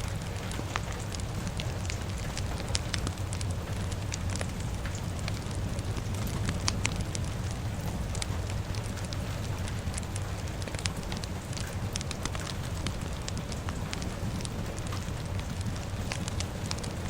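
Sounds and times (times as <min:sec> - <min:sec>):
fire crackling and popping: 0:00.0 - 0:17.0
rain falling: 0:00.0 - 0:17.0.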